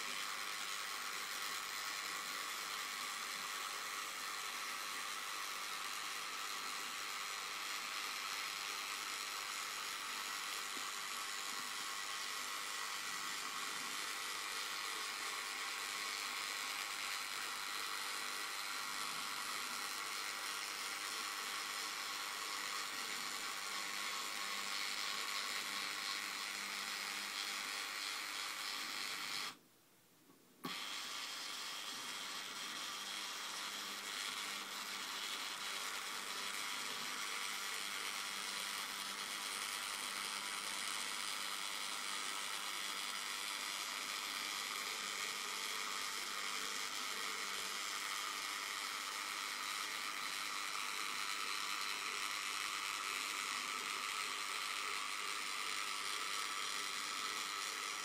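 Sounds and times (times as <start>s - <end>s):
antenna rotator motor whirring: 0.0s - 29.6s, 30.6s - 58.0s.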